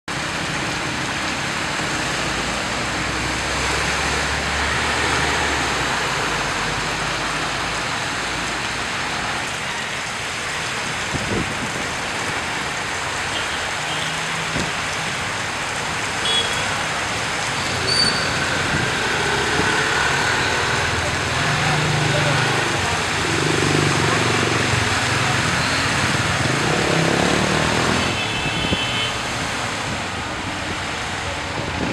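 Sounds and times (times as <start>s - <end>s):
heavy rain: 0.1s - 31.9s
tyres splashing through water: 0.1s - 31.9s.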